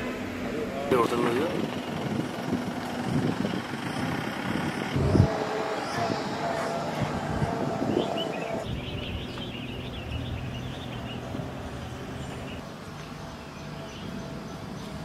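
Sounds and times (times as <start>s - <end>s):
birds chirping: 0.0s - 15.0s
engine whine: 0.0s - 15.0s
vehicle engine passing: 0.0s - 15.0s.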